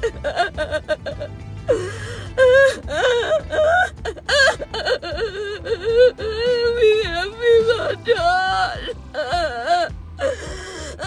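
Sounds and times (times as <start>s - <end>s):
woman sobbing and wailing: 0.0s - 11.0s.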